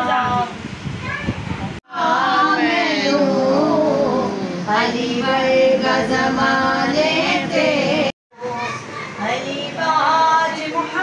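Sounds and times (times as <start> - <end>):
voices singing devotional song: 1.8 - 11.0.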